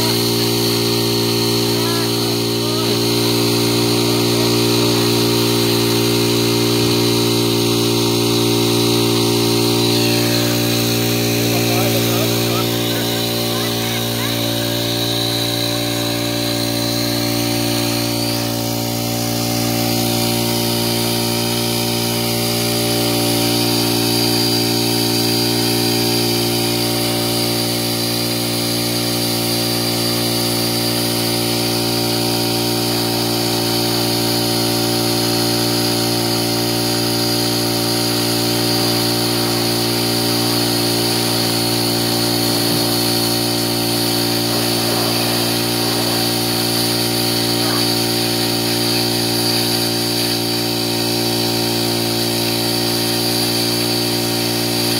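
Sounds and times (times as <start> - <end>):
water pump engine whining: 0.0 - 54.9.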